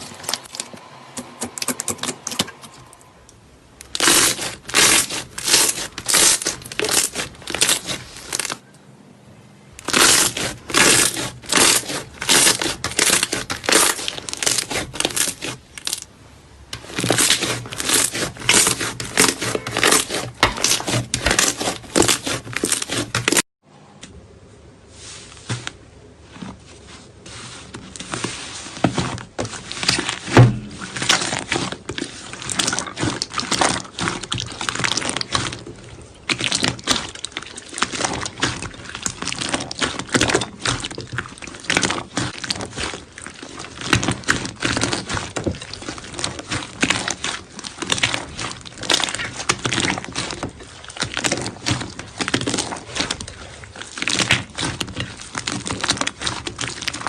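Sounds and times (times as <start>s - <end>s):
slime squished by hand: 3.8s - 8.6s, 9.8s - 16.2s, 16.8s - 23.4s, 27.3s - 57.0s.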